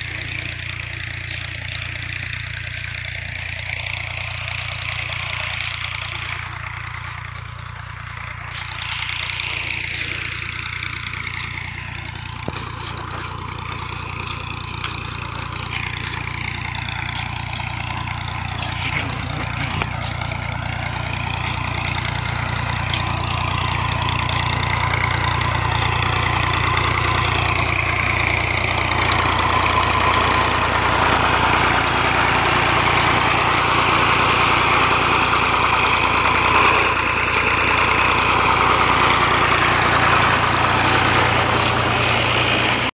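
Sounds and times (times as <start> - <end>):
tractor diesel engine idling: 0.0 - 43.0.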